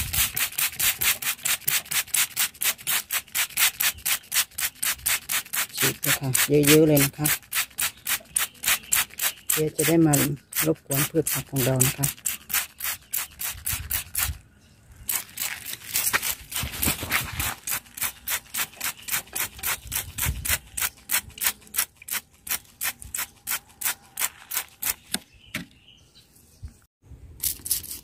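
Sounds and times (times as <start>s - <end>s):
spray bottle squirting: 0.0s - 14.4s, 15.1s - 25.0s.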